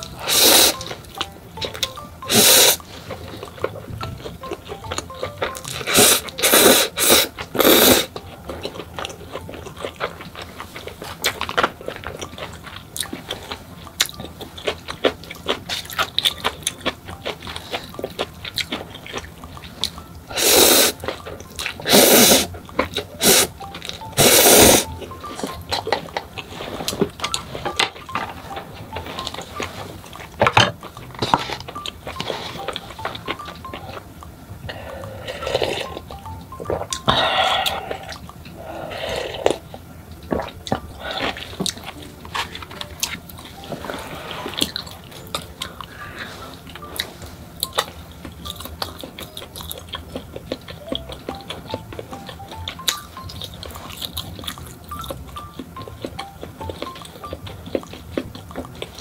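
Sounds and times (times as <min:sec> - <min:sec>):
wet chewing clicks: 0:00.0 - 0:46.0, 0:46.6 - 0:59.0.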